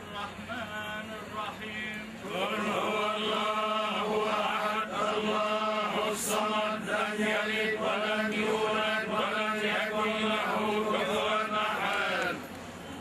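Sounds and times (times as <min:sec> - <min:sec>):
man chanting religious recitation: 0:00.0 - 0:12.4.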